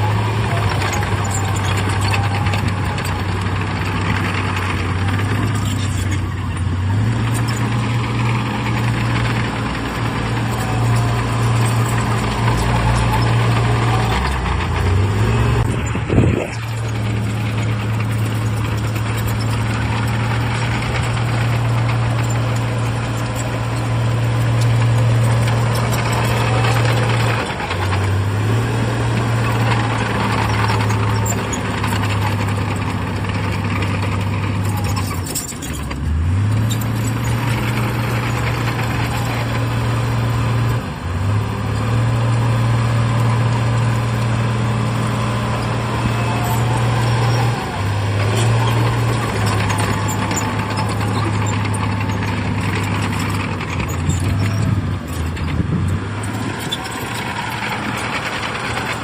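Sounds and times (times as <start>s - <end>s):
heavy diesel engine working: 0.0s - 59.0s.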